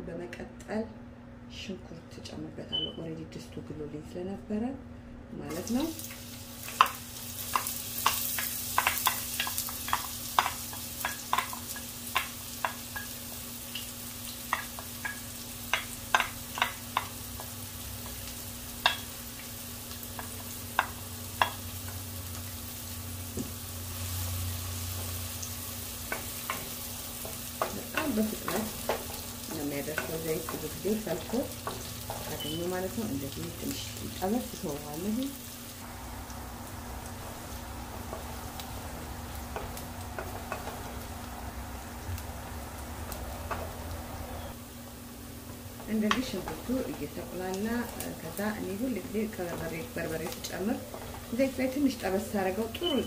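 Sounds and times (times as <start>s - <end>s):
onion sizzling in hot oil: 5.5s - 53.0s.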